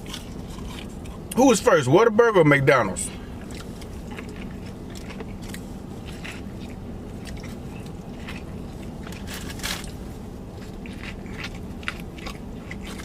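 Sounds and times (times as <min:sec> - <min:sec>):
person chewing crunchy food: 0:00.0 - 0:01.4, 0:03.1 - 0:13.0.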